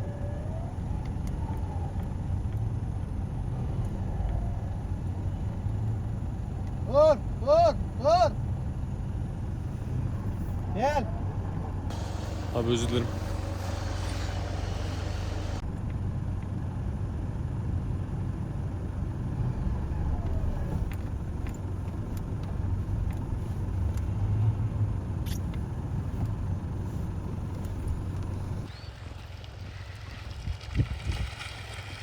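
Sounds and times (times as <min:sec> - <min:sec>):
pickup engine droning: 0:00.0 - 0:28.7.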